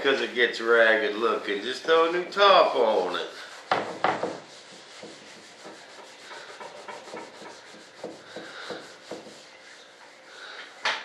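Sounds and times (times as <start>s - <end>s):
cloth rubbing wax on a mold: 0.0s - 10.5s.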